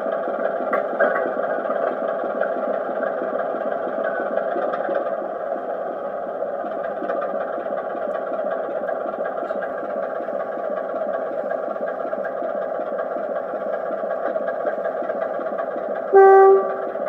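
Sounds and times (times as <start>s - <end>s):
model diesel engine through small speaker: 0.0s - 17.0s.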